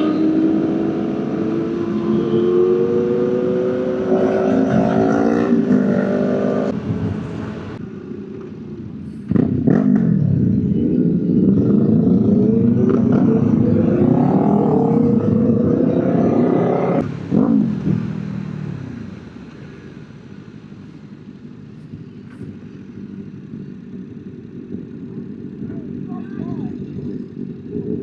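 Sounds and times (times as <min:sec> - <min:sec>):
motorcycle engine revving: 0:00.0 - 0:07.8, 0:09.3 - 0:19.1, 0:22.4 - 0:28.0.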